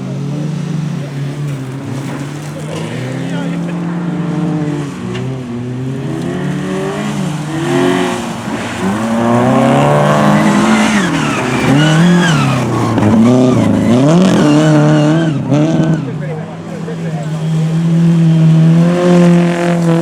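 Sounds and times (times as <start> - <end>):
car engine revving hard: 0.0 - 20.0.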